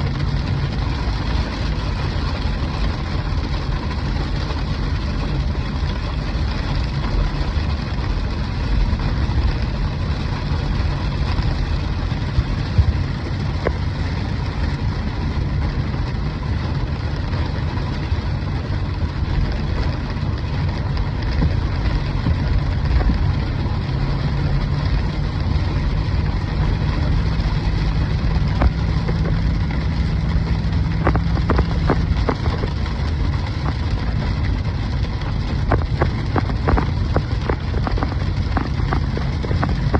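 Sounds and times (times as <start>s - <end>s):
hail clattering: 0.0s - 39.9s
low steady rumble: 0.0s - 39.9s
sharp hail hits: 0.0s - 39.9s.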